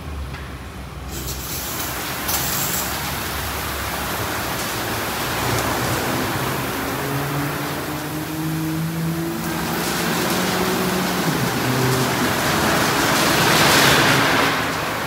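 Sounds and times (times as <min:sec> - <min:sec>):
automatic car wash rushing: 0:00.8 - 0:15.0.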